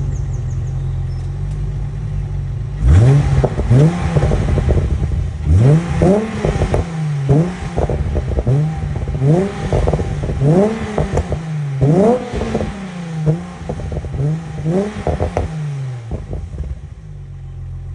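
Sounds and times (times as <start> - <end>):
car engine revving: 0.0 - 17.9
exhaust popping and crackling: 0.0 - 17.9.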